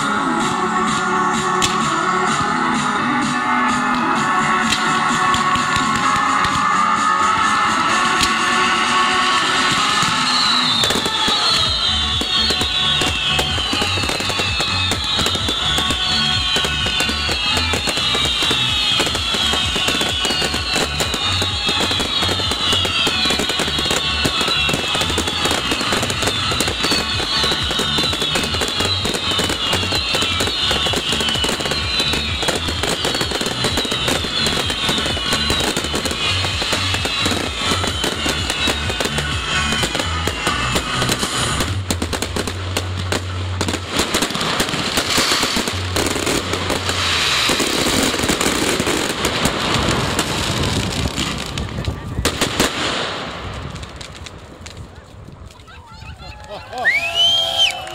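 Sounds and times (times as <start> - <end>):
music playing: 0.0 - 51.5
fireworks bangs and crackling: 0.0 - 57.9.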